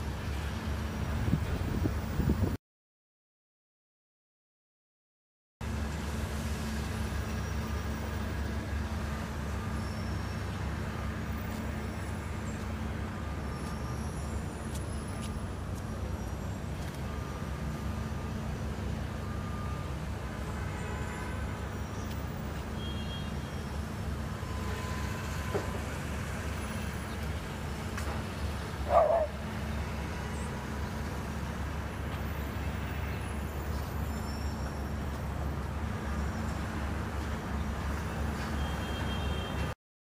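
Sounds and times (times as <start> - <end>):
city traffic rumble: 0.0 - 2.6, 5.6 - 39.8.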